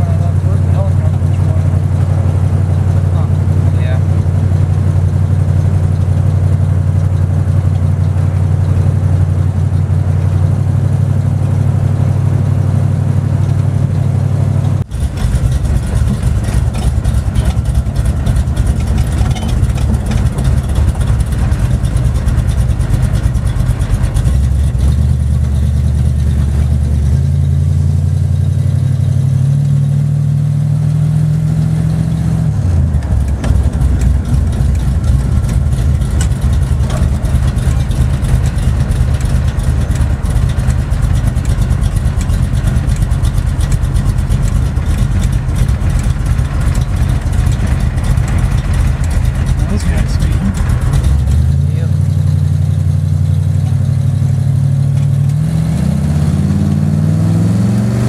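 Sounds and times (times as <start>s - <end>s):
car engine droning inside cabin: 0.0s - 58.0s.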